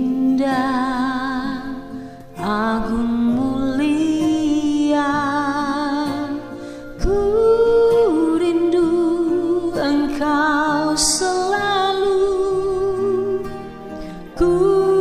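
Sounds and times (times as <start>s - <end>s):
slow song with held notes: 0.0s - 15.0s.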